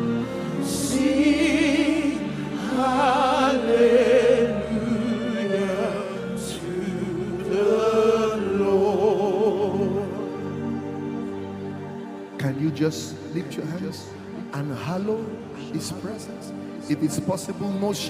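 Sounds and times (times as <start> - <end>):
worship singing with music: 0.0 - 18.0.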